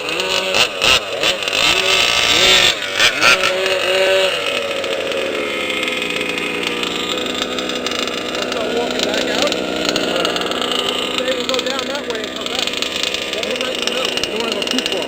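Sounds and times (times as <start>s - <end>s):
small two-stroke engines revving: 0.0s - 15.0s.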